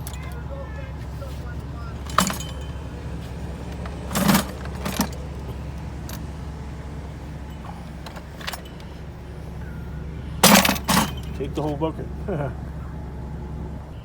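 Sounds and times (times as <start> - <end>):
metal hand tools clattering: 0.0 - 12.4
vehicle engine idling: 0.0 - 14.0.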